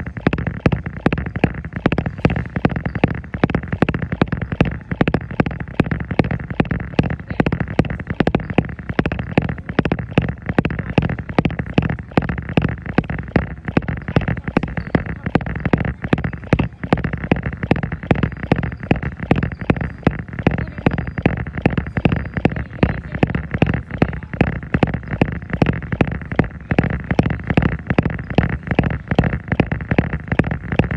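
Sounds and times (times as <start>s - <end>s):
continuous low hum: 0.0s - 30.9s
footfalls pounding treadmill belt: 0.0s - 30.9s.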